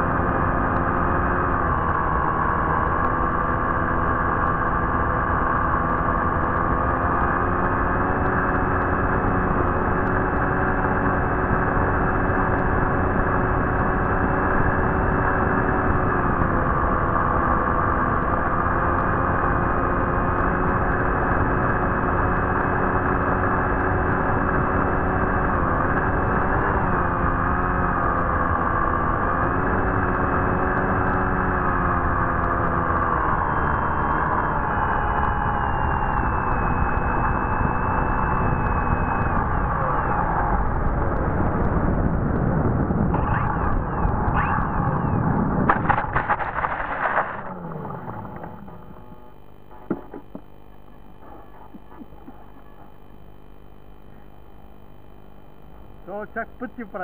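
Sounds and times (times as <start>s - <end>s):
motor drone: 0.0s - 57.0s.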